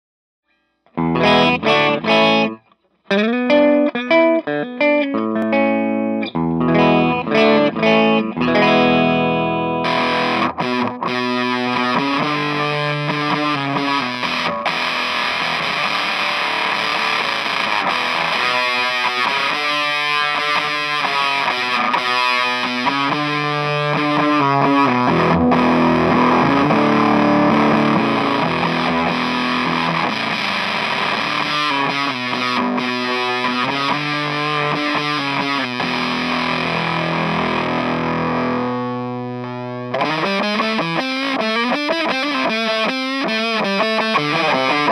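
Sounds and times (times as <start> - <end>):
fuzzed electric guitar tone: 0.8 - 44.9
electric guitar picked notes: 0.9 - 44.9.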